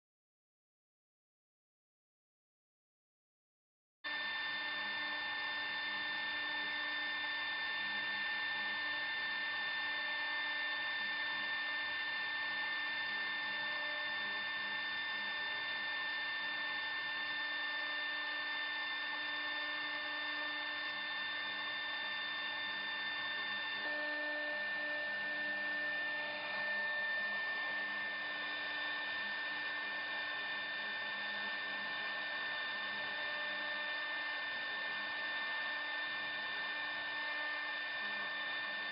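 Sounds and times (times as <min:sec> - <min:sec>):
router spindle whining: 0:04.1 - 0:38.9.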